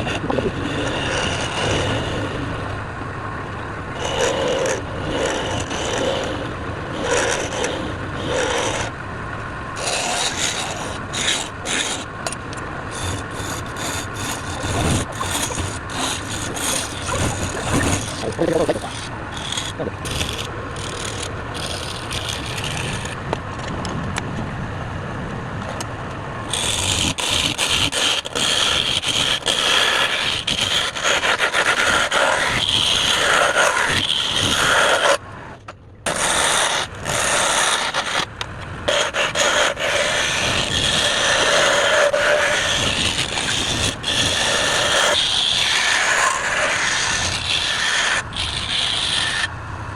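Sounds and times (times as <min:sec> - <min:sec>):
wood lathe scraping rasp: 0:00.0 - 0:02.4, 0:03.9 - 0:08.9, 0:09.8 - 0:12.1, 0:12.9 - 0:23.2, 0:26.4 - 0:35.2, 0:36.1 - 0:49.5.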